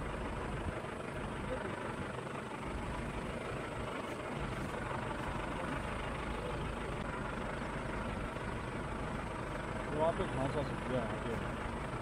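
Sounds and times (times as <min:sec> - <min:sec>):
vehicle driving on unpaved road: 0:00.0 - 0:12.0.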